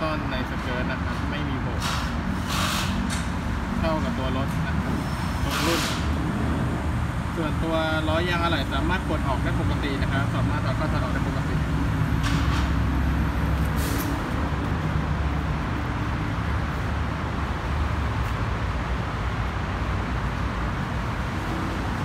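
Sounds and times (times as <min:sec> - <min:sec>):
road traffic: 0:00.0 - 0:22.0
vehicle engine rumbling: 0:00.0 - 0:22.0.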